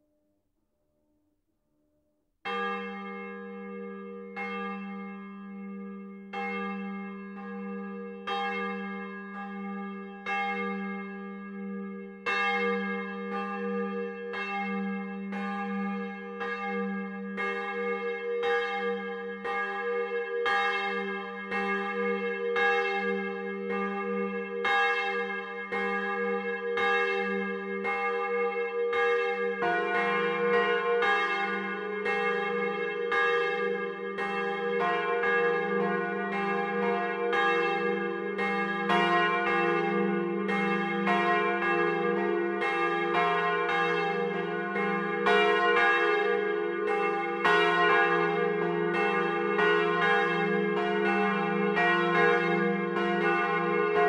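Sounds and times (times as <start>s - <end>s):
deep church bell: 2.4s - 54.0s
church bells ringing: 2.5s - 54.0s.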